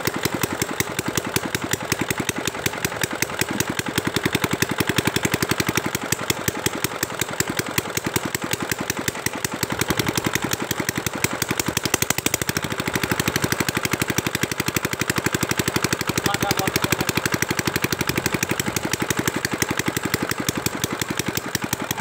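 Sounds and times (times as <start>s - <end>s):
small diesel engine running: 0.0s - 22.0s.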